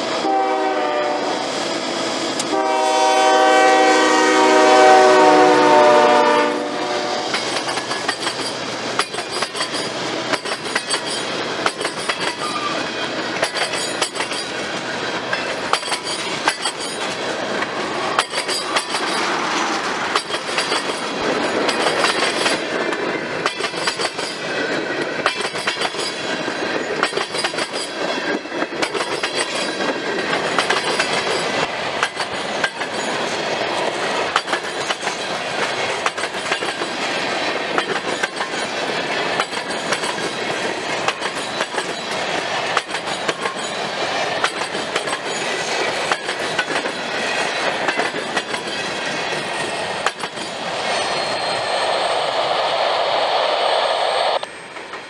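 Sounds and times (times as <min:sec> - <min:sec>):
freight train rolling past: 0:00.0 - 0:55.0
train wheels clicking over rail joints: 0:07.3 - 0:51.4.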